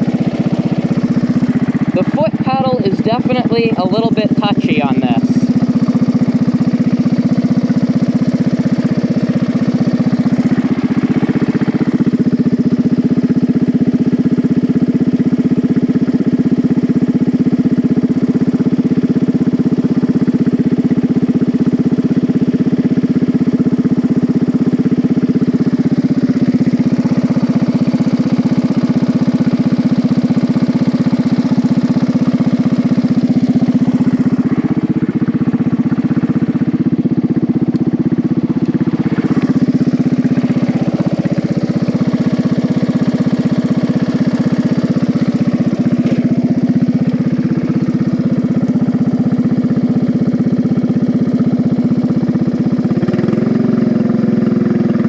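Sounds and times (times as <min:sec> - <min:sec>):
riding mower engine droning: 0:00.0 - 0:55.0.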